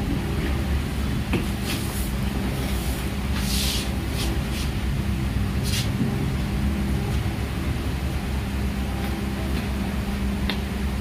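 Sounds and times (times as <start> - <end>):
workshop equipment humming: 0.0 - 11.0.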